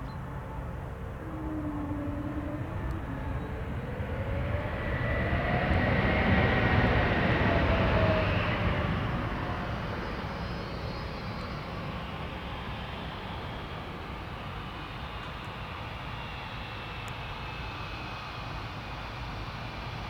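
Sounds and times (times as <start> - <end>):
jet airliner passing with whine: 0.0 - 20.0.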